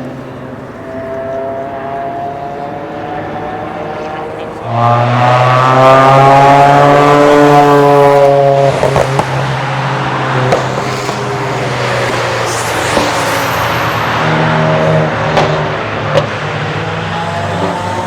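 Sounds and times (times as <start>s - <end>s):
car engine passing at speed: 0.0s - 18.0s.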